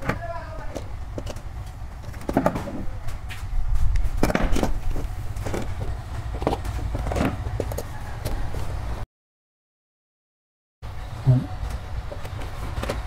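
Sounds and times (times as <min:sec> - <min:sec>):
steady low hum: 0:00.0 - 0:09.0, 0:10.8 - 0:13.0.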